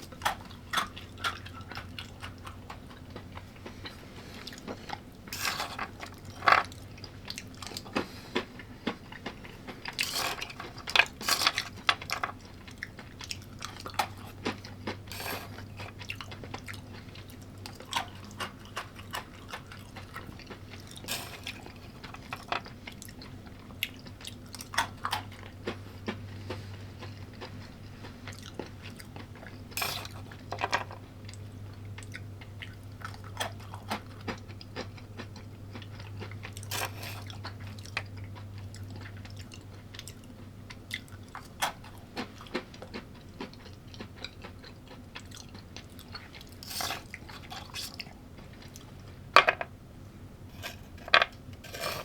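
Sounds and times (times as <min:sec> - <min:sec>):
person chewing food: 0:00.0 - 0:49.2
low steady hum: 0:00.0 - 0:52.0.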